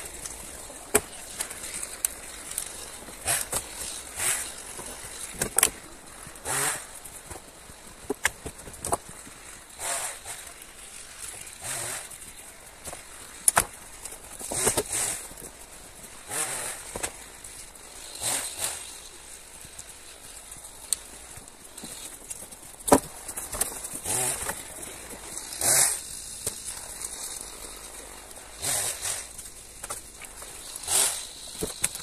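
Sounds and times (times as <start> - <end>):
dry branches crunching and cracking: 0.0 - 32.0.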